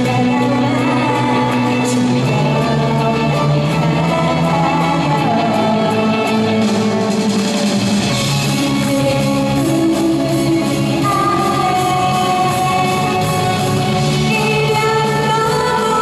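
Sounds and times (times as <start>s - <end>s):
woman singing: 0.0s - 6.9s, 8.4s - 16.0s.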